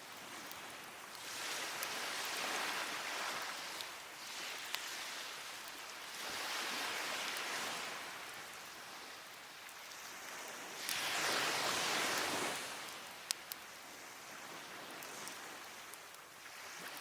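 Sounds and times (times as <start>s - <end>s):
waves washing up beach: 0.0s - 17.0s.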